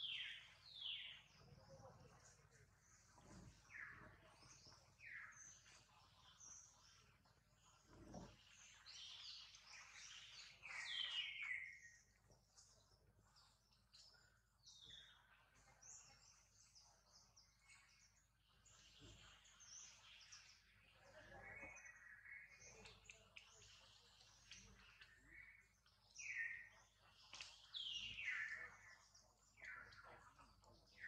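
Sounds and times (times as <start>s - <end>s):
birds calling and chirping: 0.0s - 31.0s.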